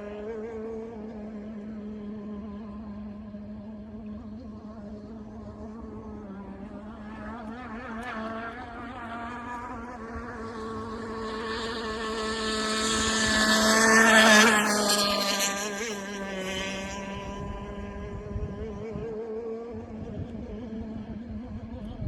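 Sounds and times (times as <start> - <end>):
model boat engine buzzing: 0.0 - 22.0.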